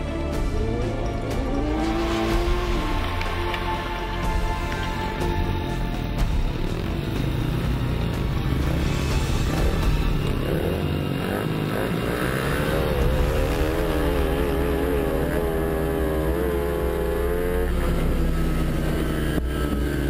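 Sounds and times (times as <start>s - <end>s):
motorcycle engine at full throttle: 0.0s - 20.0s.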